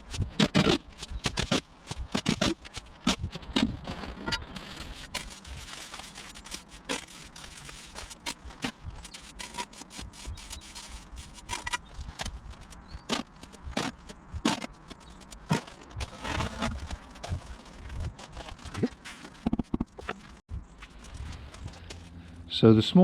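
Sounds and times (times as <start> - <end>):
scraping on paving slabs: 0.0 - 22.0.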